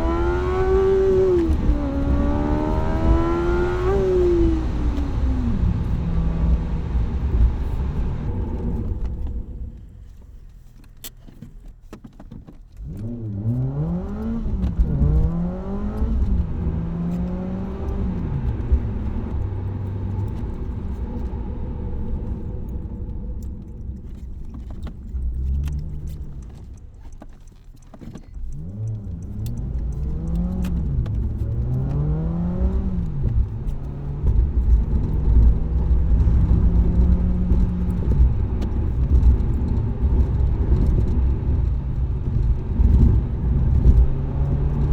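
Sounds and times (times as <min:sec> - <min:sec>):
car accelerating through gears: 0:00.0 - 0:09.6, 0:12.8 - 0:23.1, 0:28.3 - 0:44.9.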